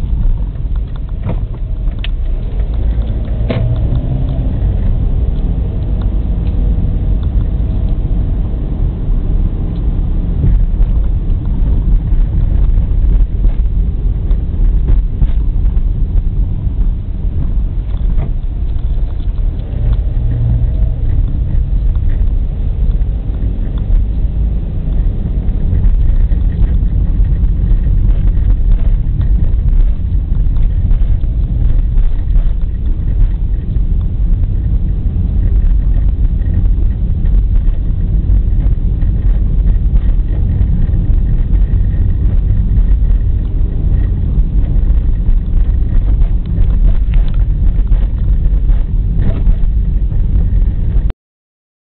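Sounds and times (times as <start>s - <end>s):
vehicle engine rumble: 0.0s - 51.1s
wind buffeting microphone: 0.0s - 51.1s.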